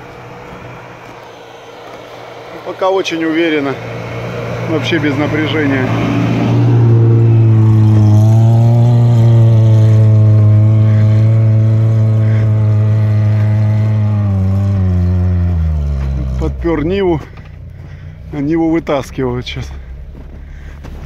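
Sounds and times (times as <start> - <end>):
car engine pulling under load: 0.0 - 21.0.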